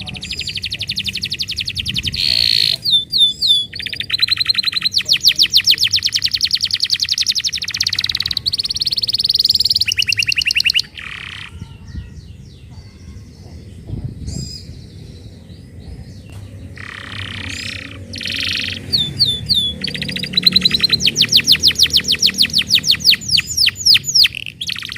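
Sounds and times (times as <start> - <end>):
canary singing trills: 0.0 - 24.9
faint bird chirps: 0.0 - 24.9.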